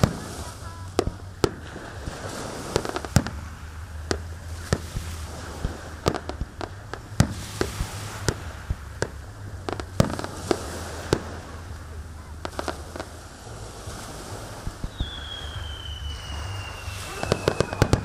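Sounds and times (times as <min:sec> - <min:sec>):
firework shells bursting: 0:00.0 - 0:18.0.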